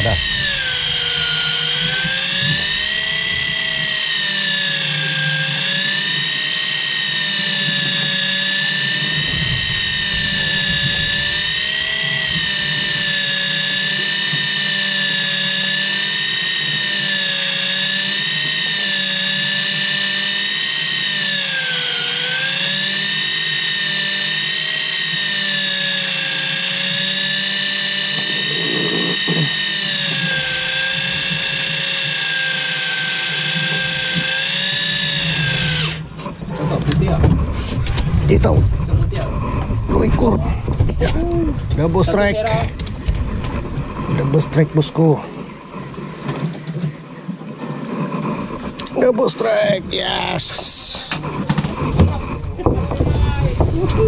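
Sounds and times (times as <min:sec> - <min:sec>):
steady low hum: 0:00.0 - 0:23.8, 0:24.4 - 0:54.0
fishing reel motor whining: 0:00.0 - 0:54.0.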